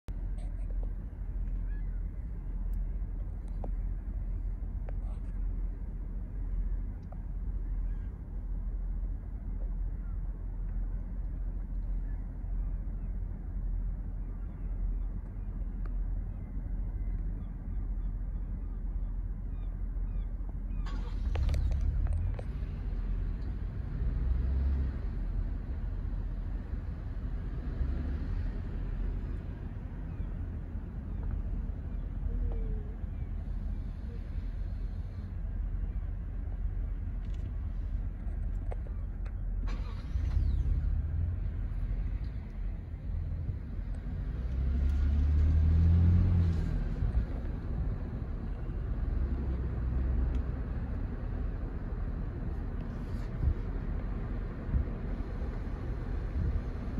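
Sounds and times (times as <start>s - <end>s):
low outdoor rumble: 0.0s - 56.9s
car engine droning: 0.1s - 56.9s.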